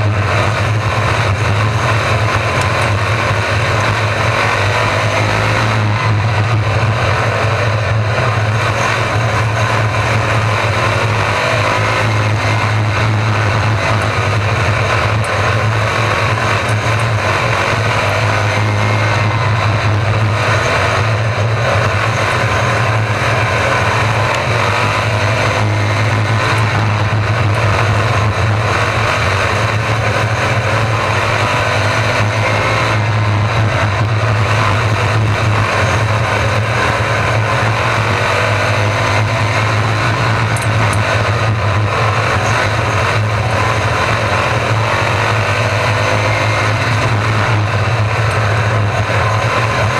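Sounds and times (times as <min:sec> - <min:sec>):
racing car engines: 0:00.0 - 0:49.9.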